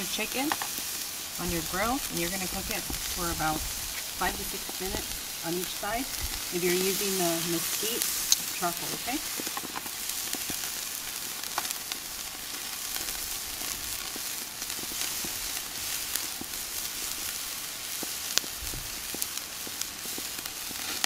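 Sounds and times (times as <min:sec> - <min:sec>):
chicken sizzling on a grill: 0:00.0 - 0:21.0
pops and crackles: 0:00.4 - 0:21.0.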